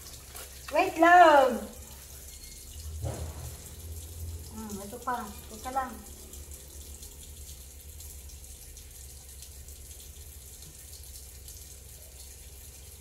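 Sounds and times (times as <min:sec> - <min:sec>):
faucet running thin stream: 0:00.0 - 0:13.0.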